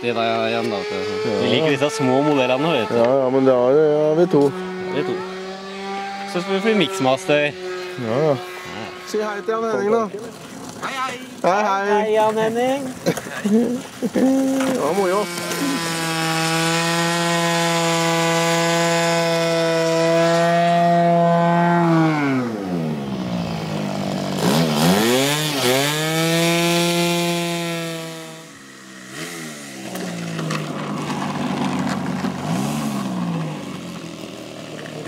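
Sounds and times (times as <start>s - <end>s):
model airplane engine revving: 0.0s - 35.0s.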